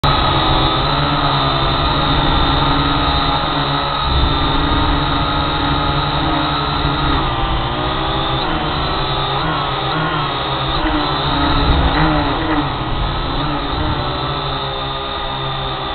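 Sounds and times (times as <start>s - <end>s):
drone propellers buzzing whine: 0.0s - 15.9s.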